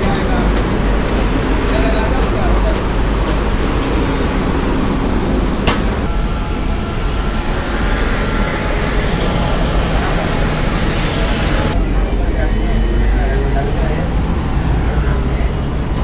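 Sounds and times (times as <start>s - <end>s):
roadside traffic noise: 0.0s - 16.0s.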